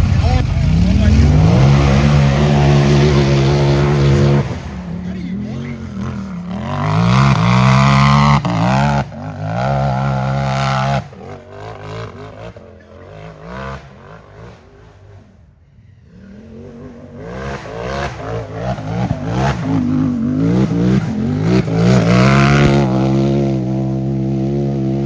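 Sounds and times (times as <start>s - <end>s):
engine revving hard: 0.0s - 15.4s, 16.0s - 25.0s.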